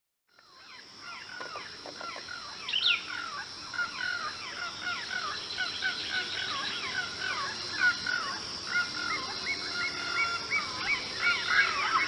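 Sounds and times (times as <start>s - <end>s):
steady high-pitched hum: 0.4s - 12.0s
birds chirping: 0.6s - 12.0s.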